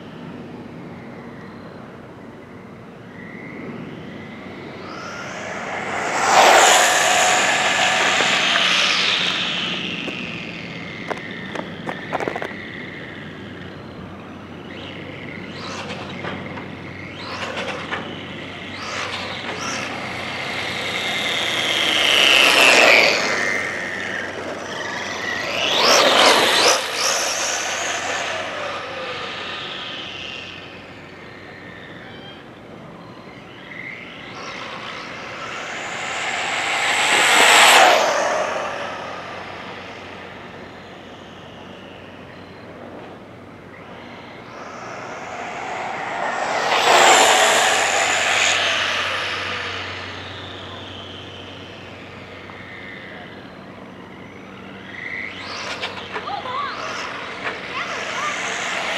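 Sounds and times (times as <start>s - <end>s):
rc truck motor whine passing: 0.0s - 58.9s.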